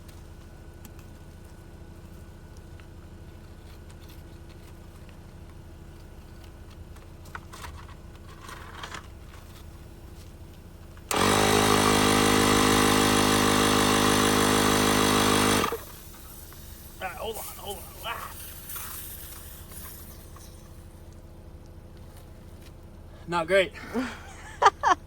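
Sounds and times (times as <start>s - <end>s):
tire inflator motor hum: 0.0s - 25.0s.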